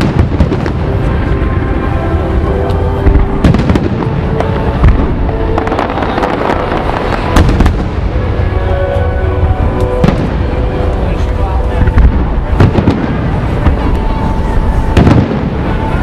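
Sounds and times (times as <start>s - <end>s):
continuous low rumble: 0.0s - 16.0s
fireworks booming and cracking: 0.0s - 16.0s
music: 0.0s - 16.0s.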